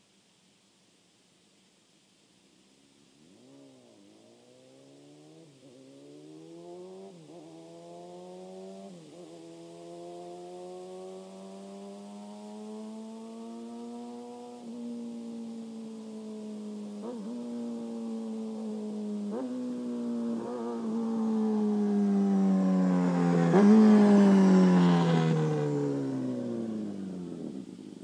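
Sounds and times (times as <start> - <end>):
motorcycle accelerating through gears: 3.2 - 28.0.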